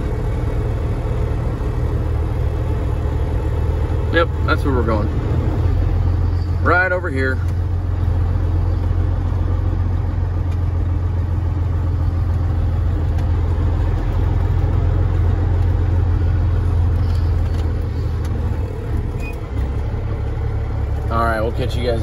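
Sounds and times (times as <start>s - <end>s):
diesel truck engine low drone: 0.0s - 22.0s.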